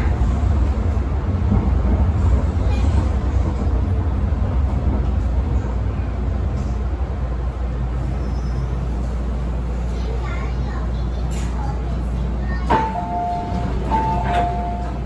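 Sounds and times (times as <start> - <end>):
train rumbling through tunnel: 0.0 - 15.0.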